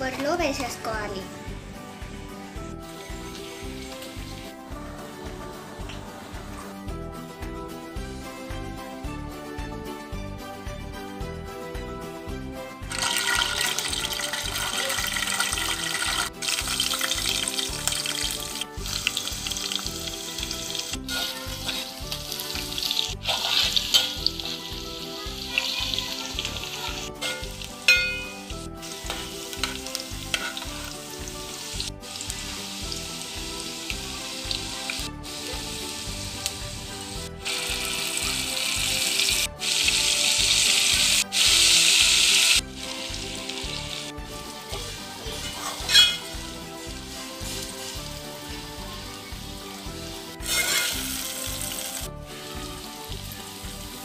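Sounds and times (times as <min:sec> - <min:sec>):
soft background music: 0:00.0 - 0:54.0
oil sizzling in a pan: 0:02.0 - 0:04.8, 0:12.8 - 0:54.0.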